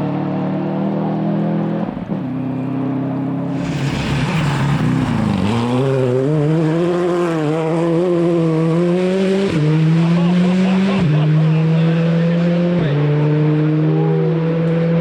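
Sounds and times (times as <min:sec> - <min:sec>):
rally car engine revving: 0:00.0 - 0:15.0
road noise: 0:00.0 - 0:15.0.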